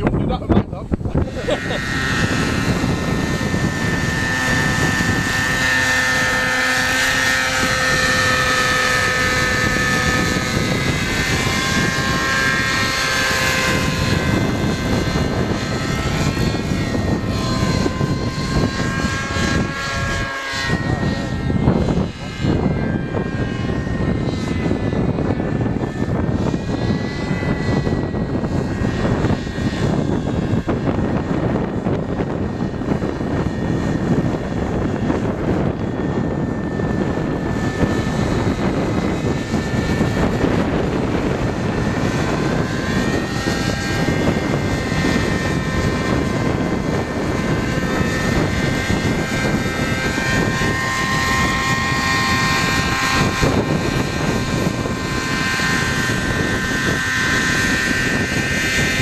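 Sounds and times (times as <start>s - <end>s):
model aircraft engine whine: 0.0s - 59.0s
wind noise on microphone: 0.0s - 59.0s.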